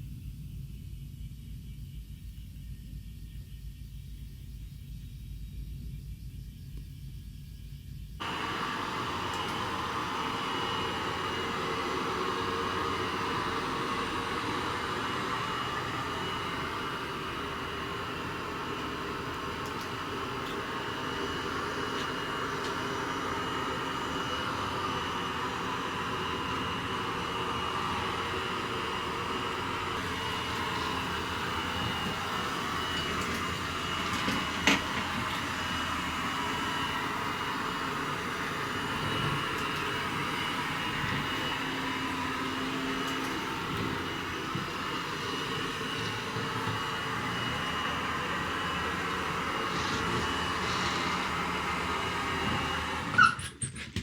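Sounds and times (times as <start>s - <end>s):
robot vacuum cleaner whirring: 8.2s - 53.7s.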